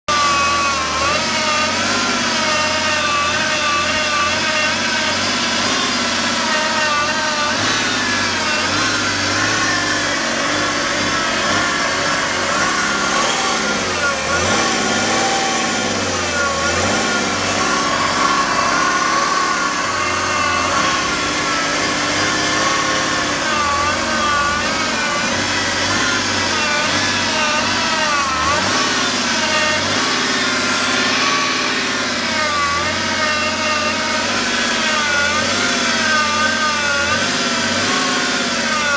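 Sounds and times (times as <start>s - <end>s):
diesel engine running: 0.1s - 38.9s
wavering pump whine: 0.2s - 38.9s.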